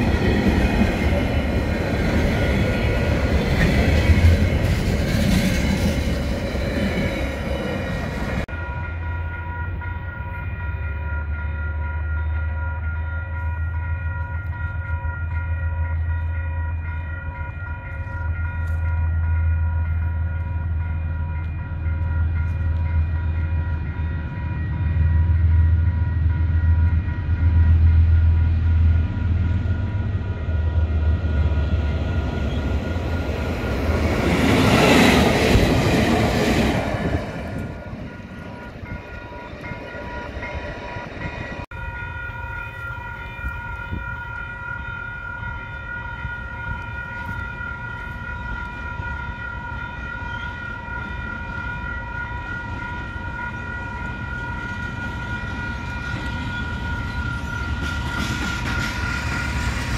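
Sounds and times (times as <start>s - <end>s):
level-crossing alarm bells: 0.0s - 59.9s.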